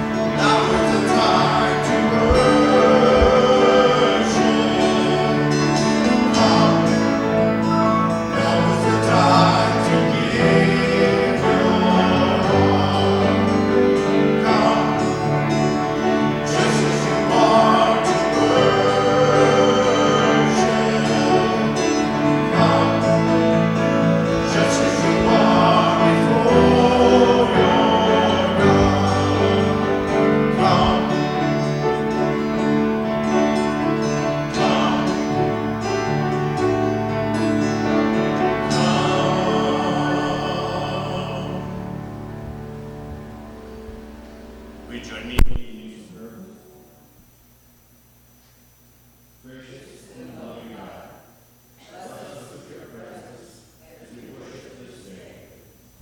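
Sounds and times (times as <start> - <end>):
instrumental accompaniment: 0.0 - 45.8
held bass notes: 0.0 - 47.2
voices singing worship song: 0.0 - 47.2, 49.4 - 56.0.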